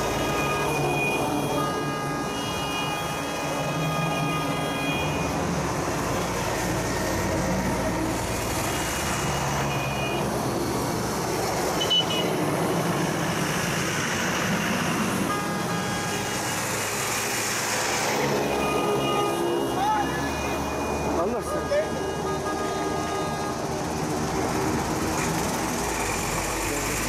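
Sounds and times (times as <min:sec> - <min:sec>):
truck engines rumbling: 0:00.0 - 0:27.0
tyres on wet road: 0:00.0 - 0:27.0.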